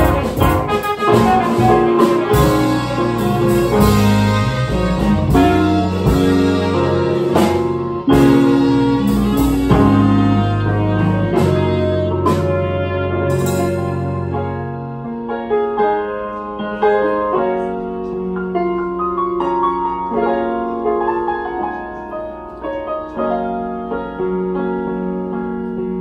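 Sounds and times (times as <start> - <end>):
jazz piano playing: 0.0 - 26.0.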